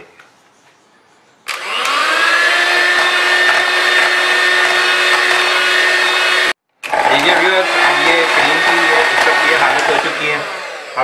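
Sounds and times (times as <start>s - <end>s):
electric hand mixer whining: 1.5s - 11.0s.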